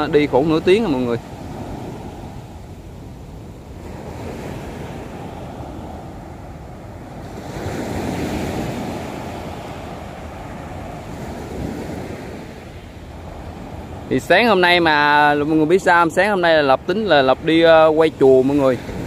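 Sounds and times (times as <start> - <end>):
waves breaking on beach: 0.0 - 19.0
wind on microphone: 0.0 - 19.0.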